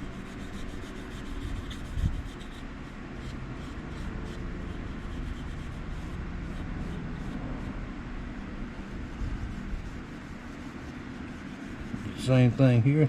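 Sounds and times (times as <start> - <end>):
cloth rubbing a knife: 0.0 - 7.8, 8.7 - 12.8.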